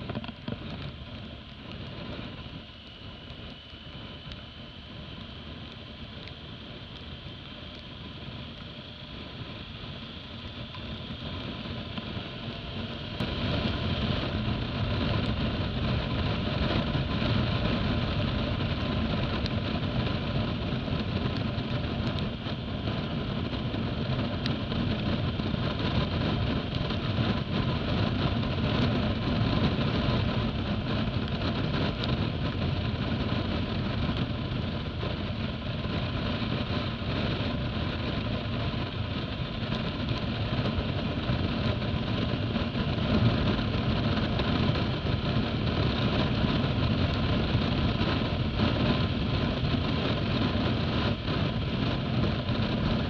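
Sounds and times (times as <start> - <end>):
motorcycle engine running: 0.0 - 53.0
road noise: 0.0 - 53.0
wind: 0.0 - 53.0.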